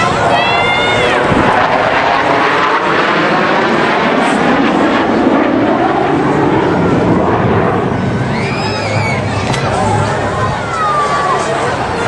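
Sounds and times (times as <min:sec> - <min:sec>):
jets passing overhead: 0:00.0 - 0:12.0.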